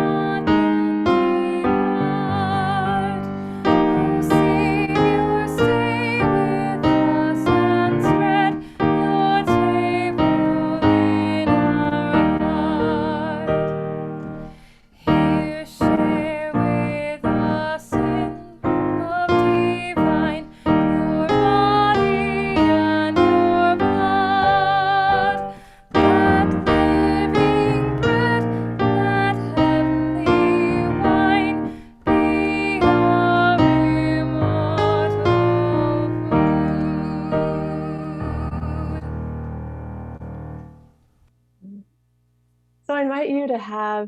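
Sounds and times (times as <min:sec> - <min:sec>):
slow piano melody: 0:00.0 - 0:41.0.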